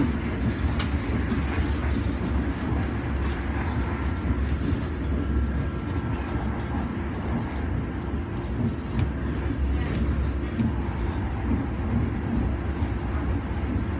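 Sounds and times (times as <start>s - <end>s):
train rumble from inside: 0.0s - 13.9s.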